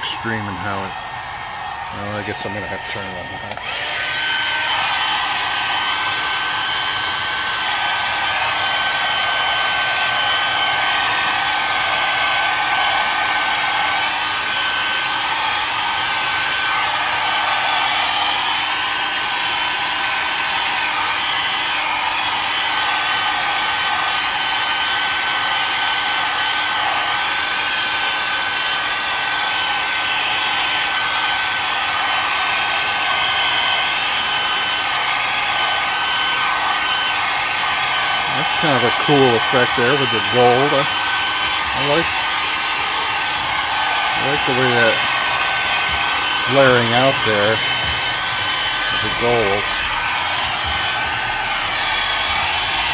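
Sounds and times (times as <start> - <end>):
hair dryer running: 0.0 - 52.9.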